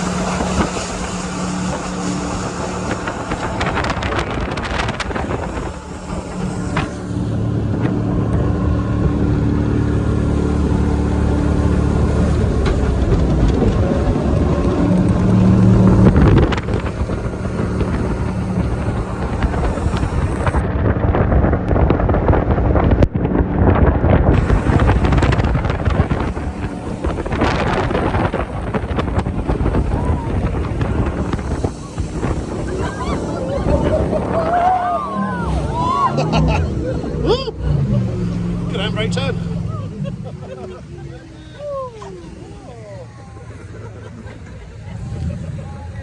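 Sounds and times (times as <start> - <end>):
rushing water: 0.0 - 40.0
wind buffeting microphone: 0.0 - 42.8
boat engine running hard: 0.0 - 46.0.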